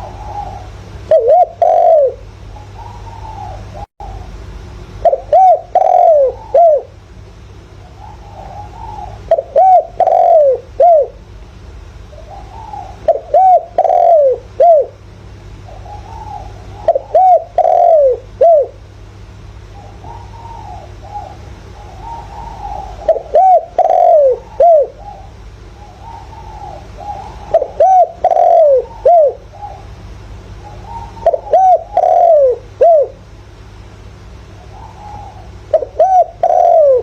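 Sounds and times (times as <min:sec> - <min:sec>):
dove cooing loudly: 0:00.0 - 0:04.4, 0:05.0 - 0:07.0, 0:07.8 - 0:11.2, 0:12.1 - 0:15.0, 0:15.6 - 0:18.9, 0:19.6 - 0:33.3, 0:34.6 - 0:37.0
soft dove cooing: 0:00.0 - 0:04.4, 0:05.0 - 0:07.0, 0:07.8 - 0:11.2, 0:12.1 - 0:15.0, 0:15.6 - 0:18.8, 0:19.6 - 0:30.0, 0:30.6 - 0:33.2, 0:34.6 - 0:37.0.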